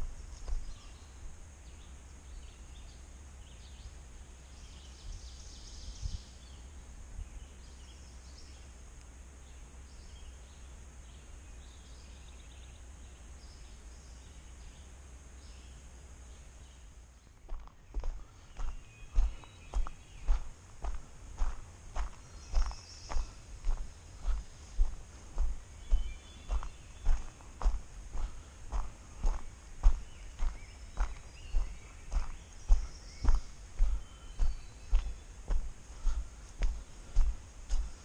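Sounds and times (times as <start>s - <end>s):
birds chirping: 0.0s - 38.0s
low steady rumble: 0.0s - 38.0s.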